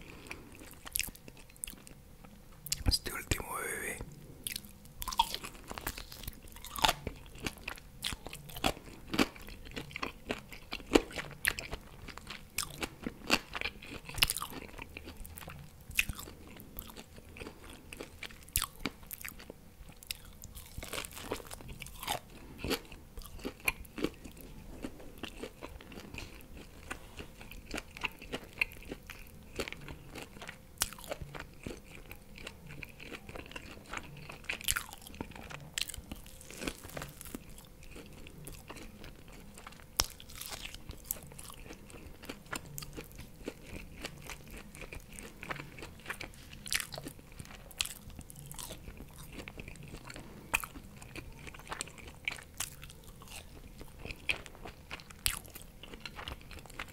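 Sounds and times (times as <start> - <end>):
chewing and biting food: 0.0 - 2.9, 4.4 - 56.9.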